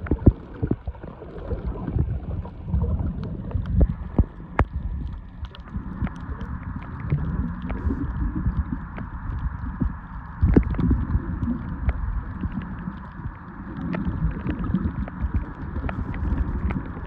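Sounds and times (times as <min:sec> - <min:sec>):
underwater rumble of moving water: 0:00.0 - 0:17.0.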